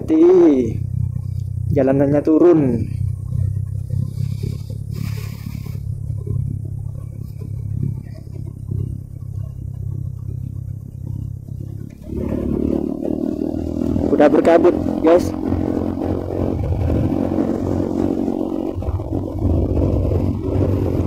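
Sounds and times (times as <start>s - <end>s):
motorcycle engine rumble: 0.0s - 21.0s.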